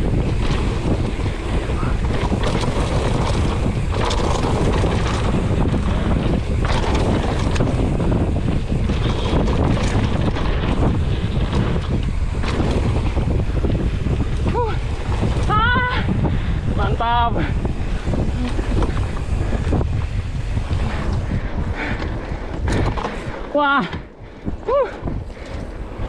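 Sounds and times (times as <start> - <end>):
bike rattling over rough trail: 0.0 - 26.0
wind buffeting microphone: 0.0 - 26.0.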